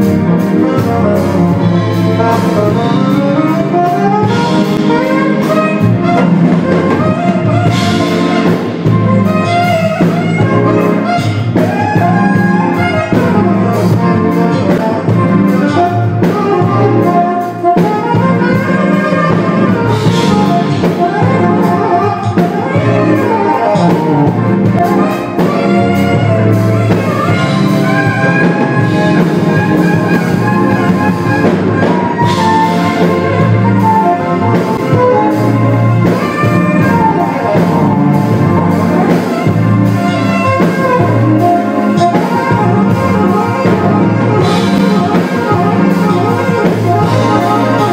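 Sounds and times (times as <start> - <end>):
live band playing: 0.0 - 47.9
saxophone lead: 0.0 - 47.9.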